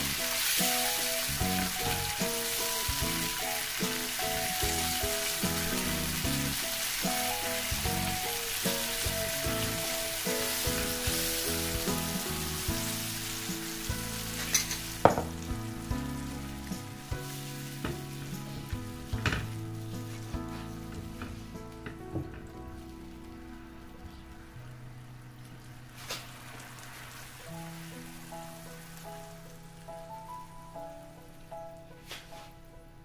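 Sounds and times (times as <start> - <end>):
sauce sizzling in a frying pan: 0.0 - 22.0, 25.7 - 31.0.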